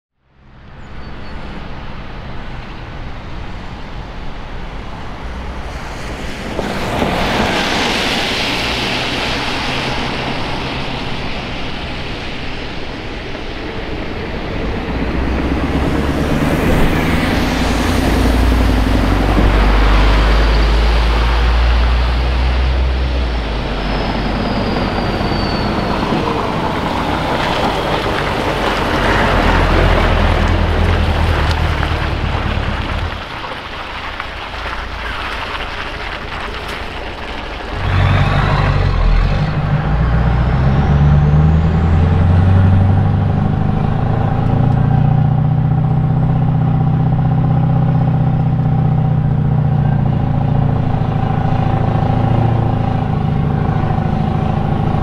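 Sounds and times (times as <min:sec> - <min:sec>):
road traffic: 0:00.1 - 0:55.0
truck exhaust rumble: 0:00.6 - 0:55.0.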